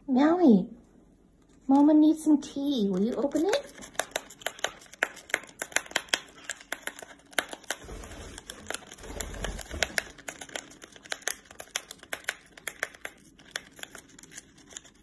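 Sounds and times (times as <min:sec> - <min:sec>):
foil packet crinkling: 0:02.8 - 0:15.0.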